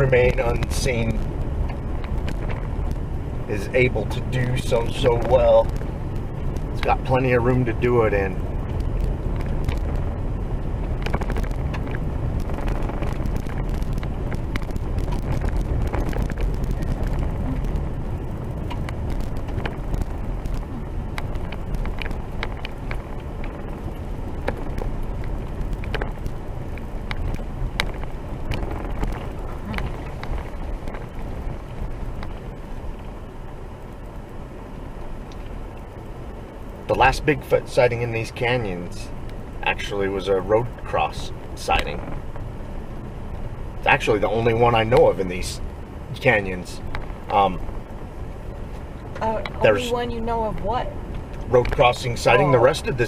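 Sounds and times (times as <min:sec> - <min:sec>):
vehicle rumbling on rough road: 0:00.0 - 0:53.0.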